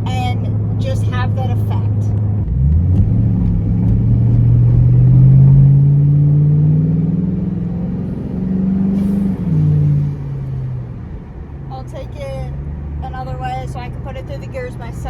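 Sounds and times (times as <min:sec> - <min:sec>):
car exhaust revving through gears: 0:00.0 - 0:15.0.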